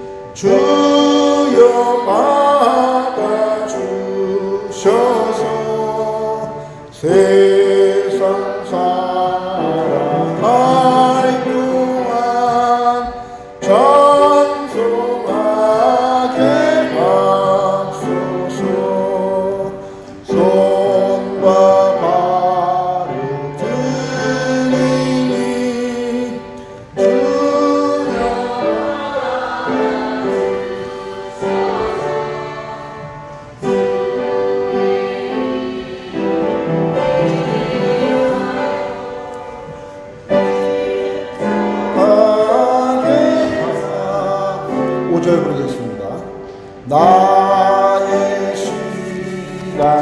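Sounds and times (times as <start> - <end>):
congregation singing a hymn: 0.0 - 50.0.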